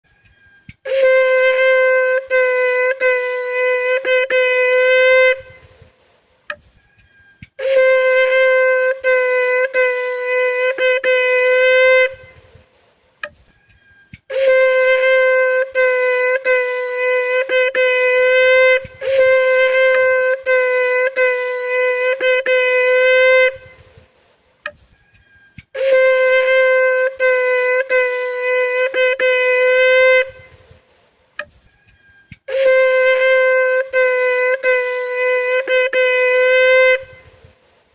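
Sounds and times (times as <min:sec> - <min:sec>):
ram's horn blasts: 0:00.0 - 0:37.7.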